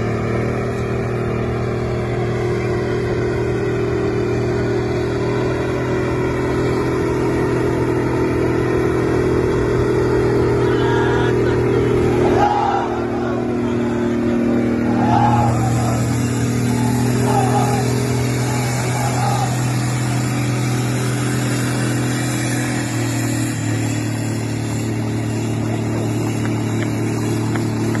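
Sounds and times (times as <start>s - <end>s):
tank engine droning: 0.0s - 28.0s.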